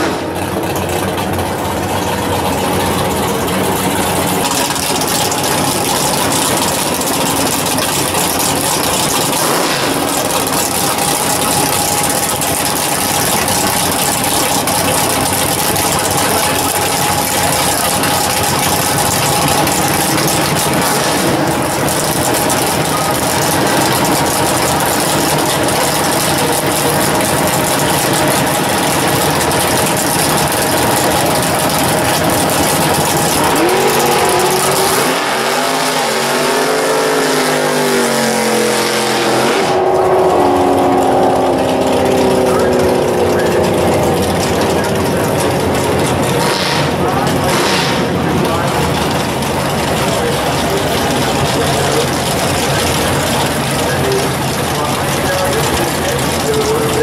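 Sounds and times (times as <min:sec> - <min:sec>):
car engine idling loudly: 0:00.0 - 0:57.0.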